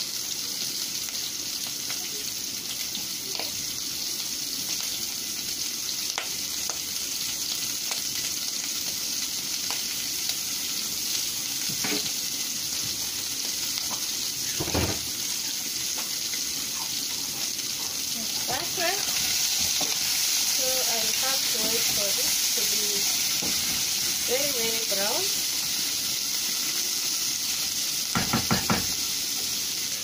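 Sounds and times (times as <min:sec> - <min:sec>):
meat and onions sizzling: 0:00.0 - 0:30.0.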